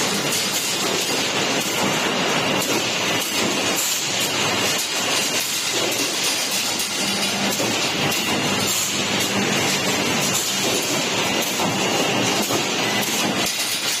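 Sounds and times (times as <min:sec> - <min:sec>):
welding machine clatter: 0:00.0 - 0:14.0.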